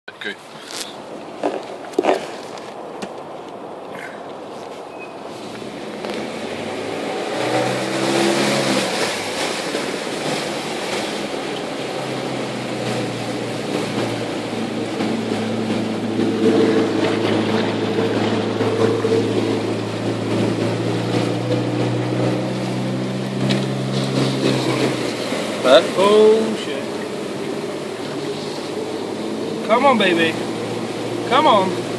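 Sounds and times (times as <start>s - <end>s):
car engine pulling: 0.2s - 31.9s
water rushing and splashing: 0.2s - 31.9s.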